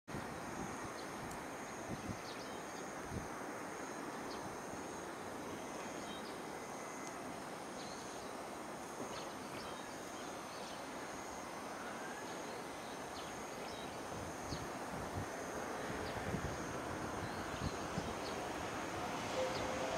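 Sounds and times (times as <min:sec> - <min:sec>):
outdoor background noise: 0:00.1 - 0:19.9.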